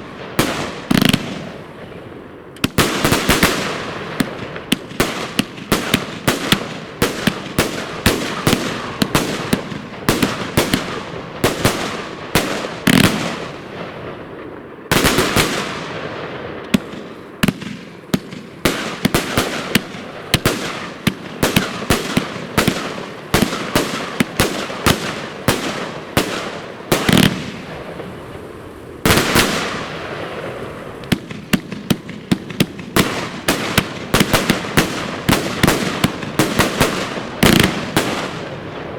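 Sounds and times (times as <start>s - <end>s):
fireworks bangs and crackles: 0.0s - 38.9s
loud firework blasts: 0.0s - 38.9s.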